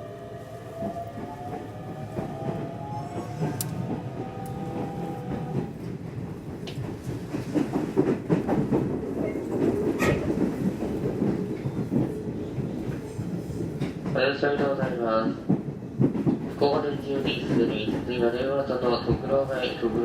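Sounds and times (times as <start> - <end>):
train rumbling on track: 0.0 - 20.0
rail clicks and knocks: 0.7 - 20.0.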